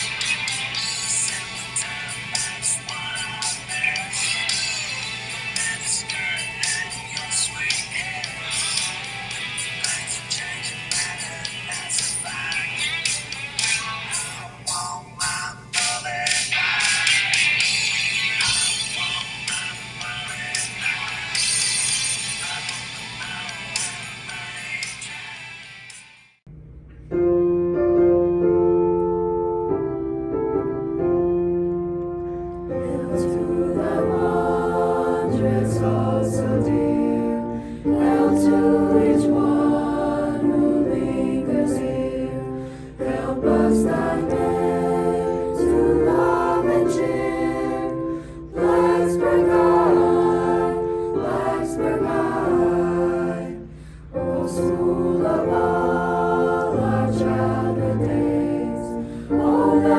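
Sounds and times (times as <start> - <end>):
choir singing: 0.0 - 15.6, 16.5 - 26.2, 32.8 - 59.9
piano accompaniment: 0.0 - 16.2, 27.0 - 59.9.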